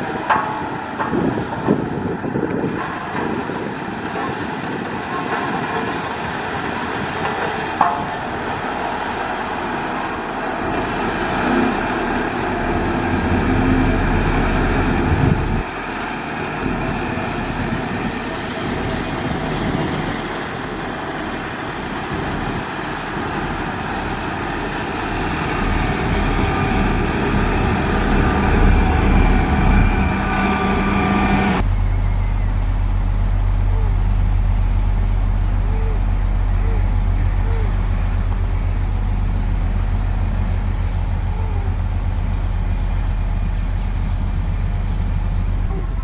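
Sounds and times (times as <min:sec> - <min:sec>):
heavy diesel engines running: 0:00.0 - 0:46.0.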